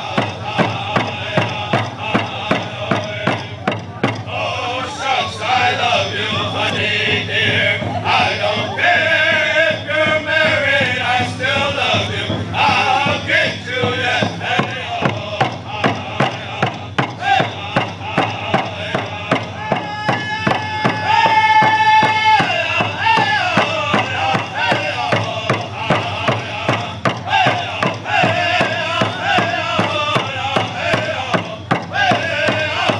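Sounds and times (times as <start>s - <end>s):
men chanting together: 0.0s - 32.9s
steady drum beat: 0.0s - 32.9s.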